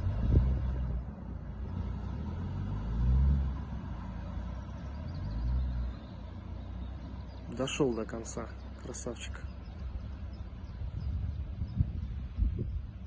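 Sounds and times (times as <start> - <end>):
off-road engine revving: 0.0 - 11.5.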